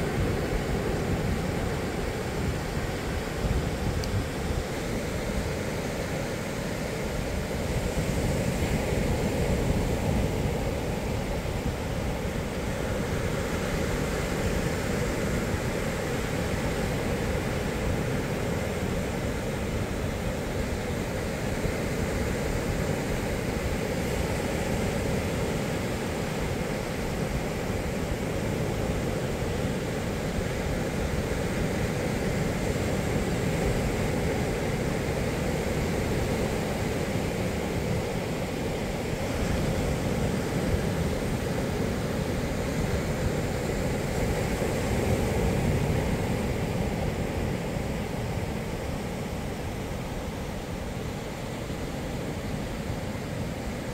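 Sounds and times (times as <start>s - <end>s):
surf washing up beach: 0.0s - 53.9s.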